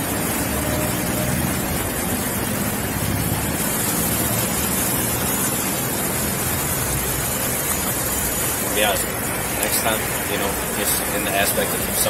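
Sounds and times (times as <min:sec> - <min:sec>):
steady microphone noise: 0:00.0 - 0:12.0.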